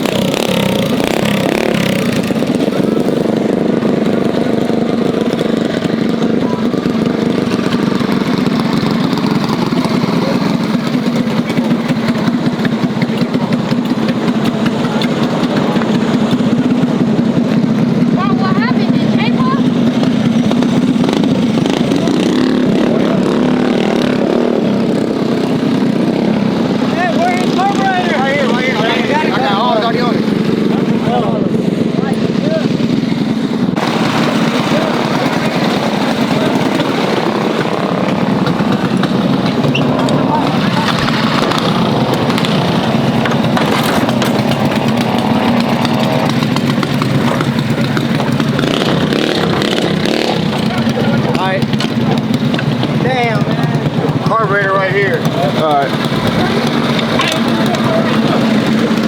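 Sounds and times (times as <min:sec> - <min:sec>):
mini bike engine running: 0:00.0 - 0:59.0.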